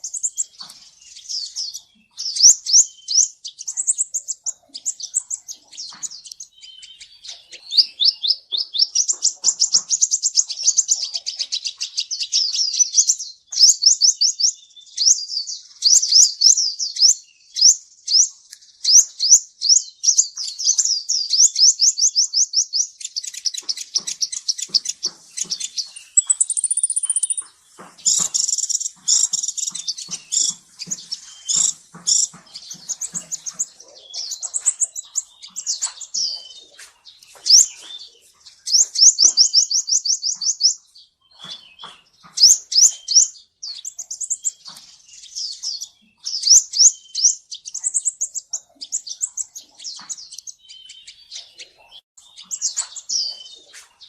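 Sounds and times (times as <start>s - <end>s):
sunbird chirping: 0.0s - 54.0s.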